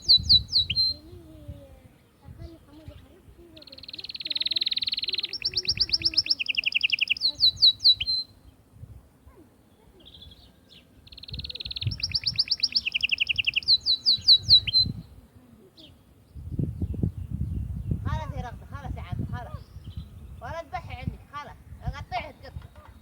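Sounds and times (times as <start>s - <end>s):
canary singing rolling trills: 0.0s - 23.0s.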